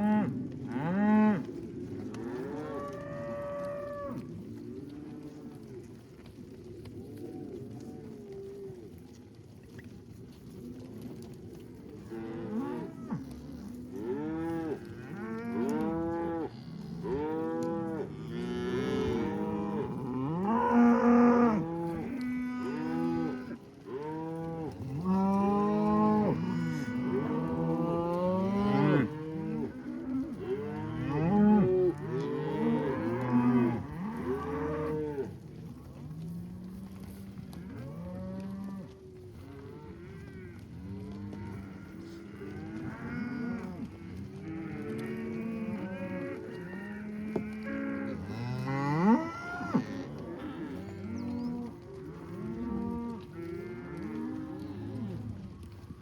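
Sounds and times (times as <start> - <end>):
herd of cows mooing: 0.0 - 9.2, 11.0 - 56.0.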